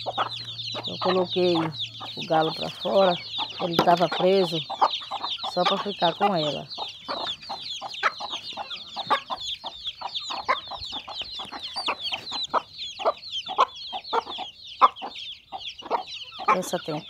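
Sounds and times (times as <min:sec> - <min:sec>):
chicks peeping: 0:00.0 - 0:17.0
hens clucking: 0:00.0 - 0:17.0.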